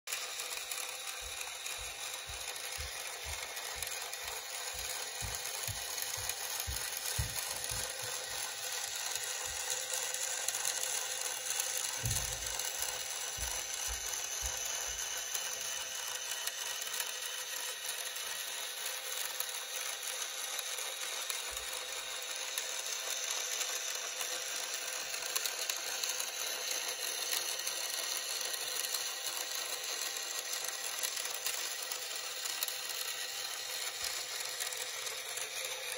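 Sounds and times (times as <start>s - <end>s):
geared electric motor whirring: 0.1s - 35.9s.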